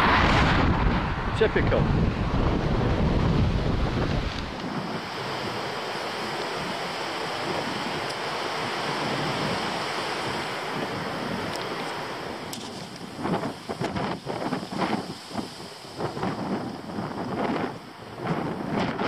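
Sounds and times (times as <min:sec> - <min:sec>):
low wind buffeting: 0:00.0 - 0:19.0
wind rushing over microphone: 0:00.0 - 0:19.0.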